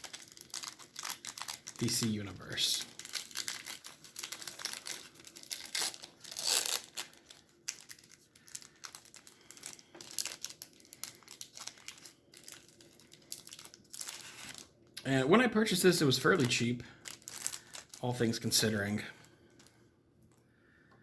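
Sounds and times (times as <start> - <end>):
card pack wrapper crinkling: 0.0 - 19.8.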